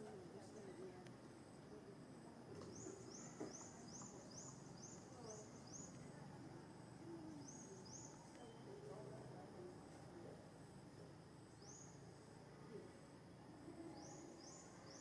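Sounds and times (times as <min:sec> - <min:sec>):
quiet outdoor background noise: 0:00.0 - 0:15.0.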